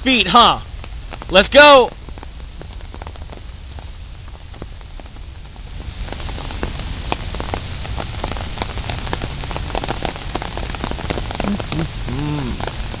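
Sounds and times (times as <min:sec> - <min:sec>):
raindrops hitting close by: 0:00.0 - 0:13.0
steady rain: 0:00.0 - 0:13.0.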